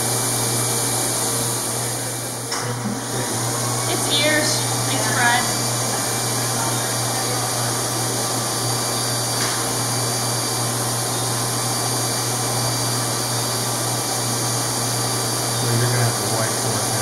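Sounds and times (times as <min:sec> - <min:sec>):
surgical equipment motor whirring: 0:00.0 - 0:17.0.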